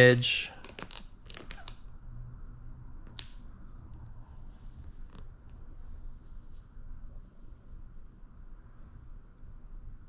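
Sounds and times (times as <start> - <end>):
low steady hum: 1.8 - 10.0.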